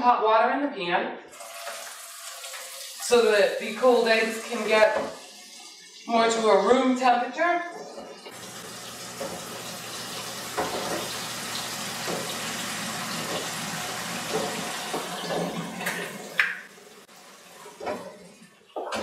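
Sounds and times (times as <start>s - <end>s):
faucet running water: 1.3s - 19.0s.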